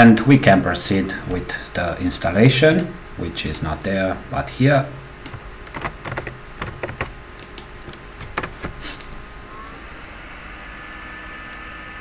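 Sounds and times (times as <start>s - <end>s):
steady hum with high whine: 0.0s - 12.0s.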